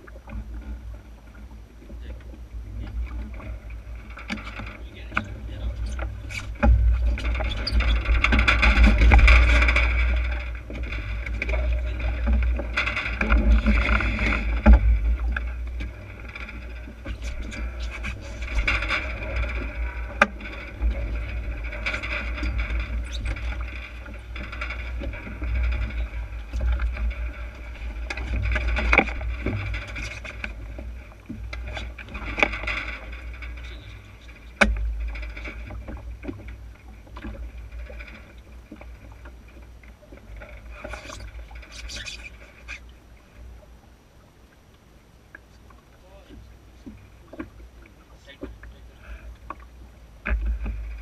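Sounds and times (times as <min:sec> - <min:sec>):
low rumble: 0:00.0 - 0:41.7
water splashing along a boat hull: 0:00.0 - 0:51.0.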